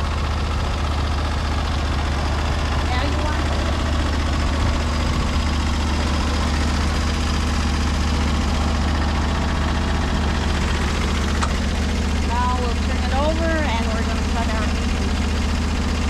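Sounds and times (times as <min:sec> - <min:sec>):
gas engine running steadily: 0:00.0 - 0:16.0.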